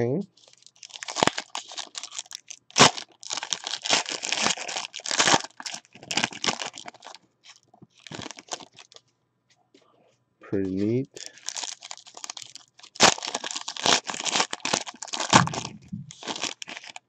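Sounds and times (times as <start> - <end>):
foil wrapper tearing and crinkling: 0.4 - 9.0, 11.2 - 17.0.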